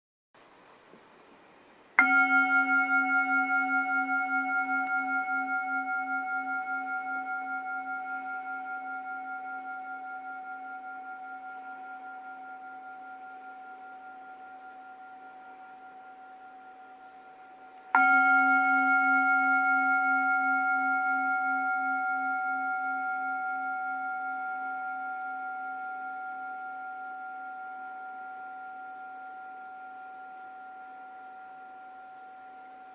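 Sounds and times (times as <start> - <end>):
singing bowl ringing: 2.0 - 32.9.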